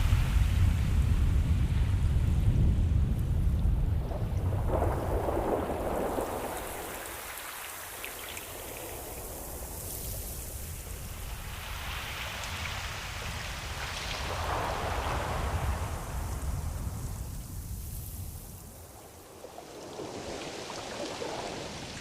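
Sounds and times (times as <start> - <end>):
ocean waves washing onto shore: 0.0 - 22.0.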